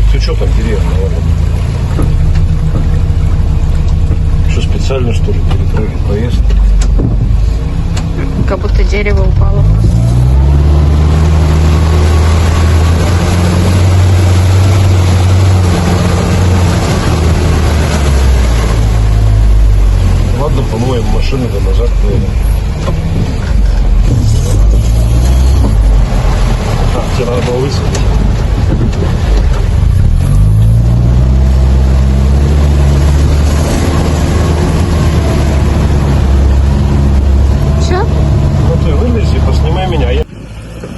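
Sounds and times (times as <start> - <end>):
all-terrain vehicle engine drone: 0.0 - 40.9.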